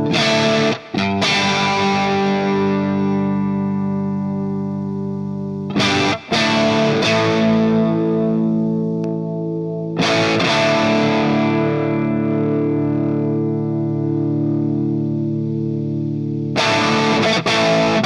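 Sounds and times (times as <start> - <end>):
distorted electric guitar chords: 0.0 - 18.0.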